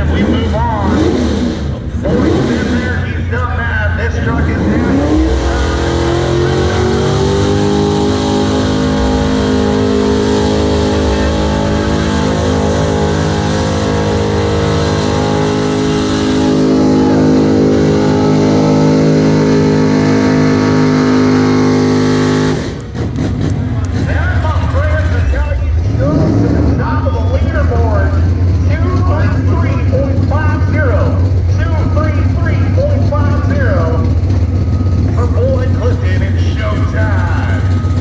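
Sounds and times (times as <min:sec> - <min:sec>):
truck engine at high revs: 0:00.0 - 0:38.0.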